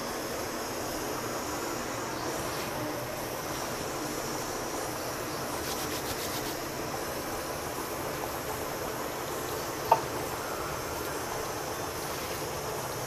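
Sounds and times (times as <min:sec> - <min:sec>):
gas stove hissing: 0:00.0 - 0:13.0.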